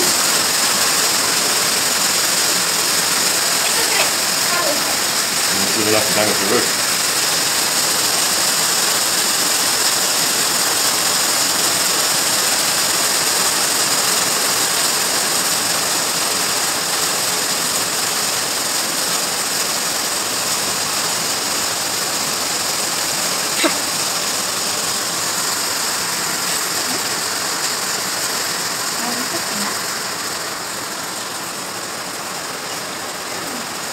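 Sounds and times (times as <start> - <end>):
heavy rain and hail: 0.0 - 33.9.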